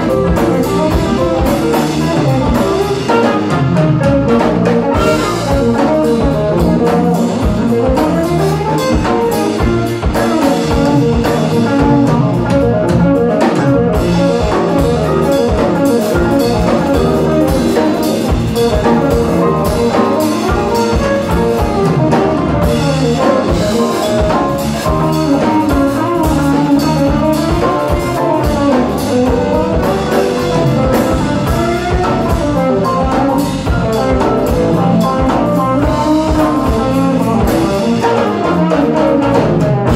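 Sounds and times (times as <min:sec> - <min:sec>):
bass guitar: 0:00.0 - 0:39.9
drum kit: 0:00.0 - 0:39.9
electric guitar: 0:00.0 - 0:39.9
saxophone: 0:00.0 - 0:39.9.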